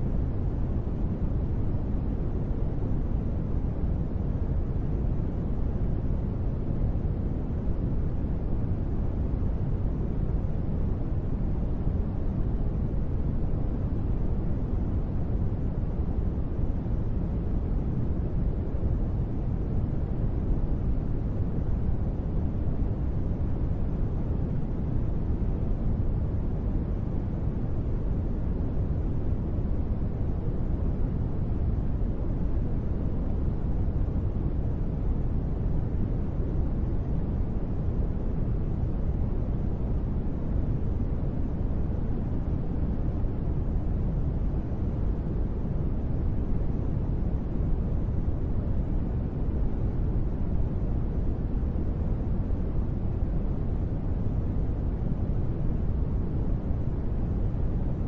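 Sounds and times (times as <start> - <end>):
deep steady rumbling noise: 0.0 - 58.0.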